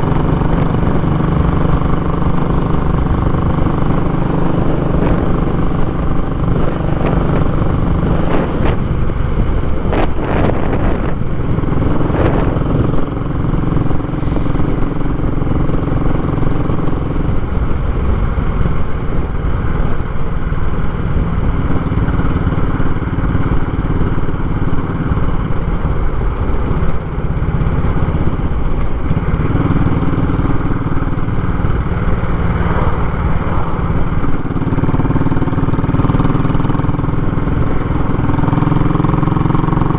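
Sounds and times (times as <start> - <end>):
motorcycle engine loud exhaust: 0.0 - 39.9.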